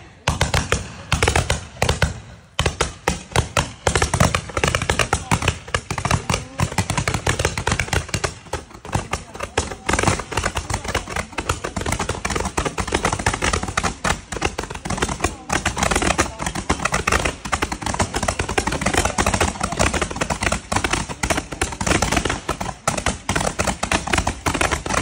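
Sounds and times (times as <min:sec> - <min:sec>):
fireworks popping and crackling: 0:00.0 - 0:25.0.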